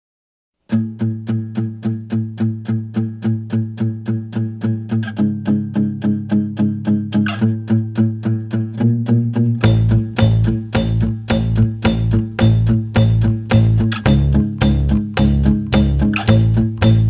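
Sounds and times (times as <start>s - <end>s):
guitar plucked notes: 0.7s - 17.0s.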